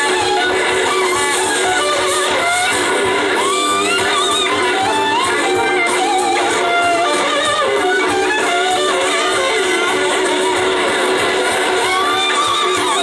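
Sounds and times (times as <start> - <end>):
bass guitar: 0.0 - 13.0
drums: 0.0 - 13.0
electric slide guitar: 0.0 - 13.0
second electric guitar: 0.0 - 13.0.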